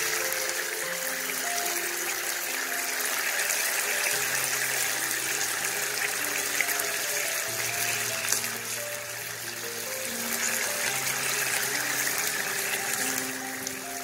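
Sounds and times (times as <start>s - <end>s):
skewers sizzling in a pan: 0.0s - 14.0s
soft background music: 0.0s - 14.0s.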